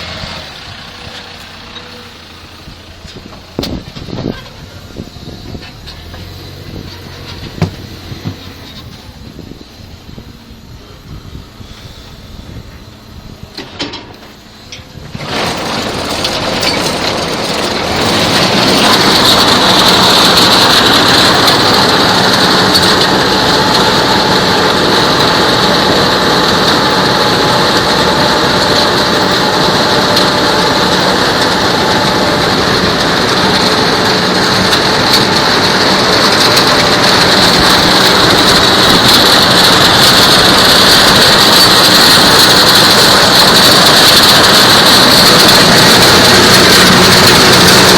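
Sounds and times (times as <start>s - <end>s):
tractor and harvester working: 0.0s - 47.9s.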